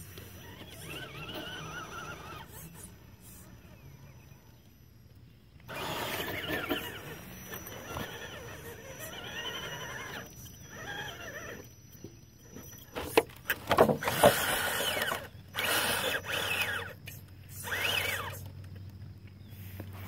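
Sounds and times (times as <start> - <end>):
toy car motor whining: 0.0 - 4.7, 5.6 - 18.5.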